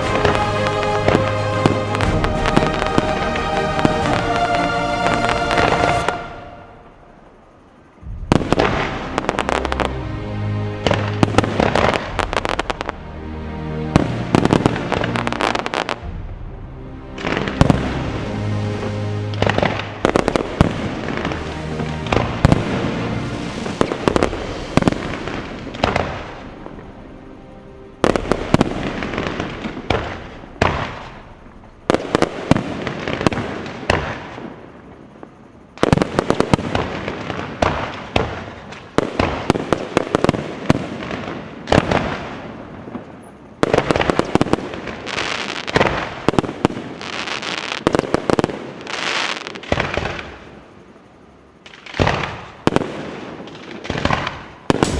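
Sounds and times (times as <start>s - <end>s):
fireworks bangs and crackle: 0.0s - 6.5s, 8.0s - 10.0s, 10.8s - 13.0s, 13.9s - 16.5s, 17.2s - 26.8s, 28.0s - 50.7s, 51.6s - 54.9s.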